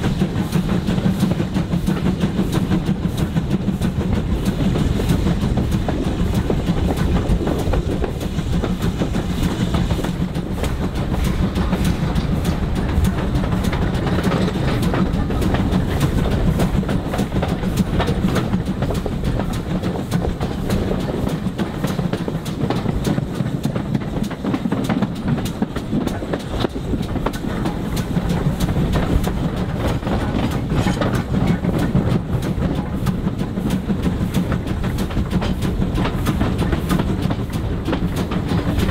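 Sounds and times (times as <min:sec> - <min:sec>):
train rumbling: 0:00.0 - 0:38.9
wheels clicking over rail joints: 0:00.0 - 0:38.9.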